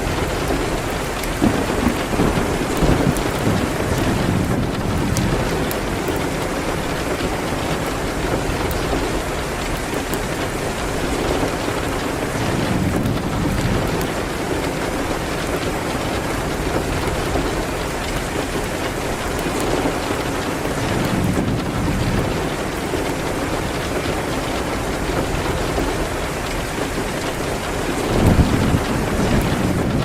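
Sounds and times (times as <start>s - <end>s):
rain hitting a window: 0.0s - 30.0s.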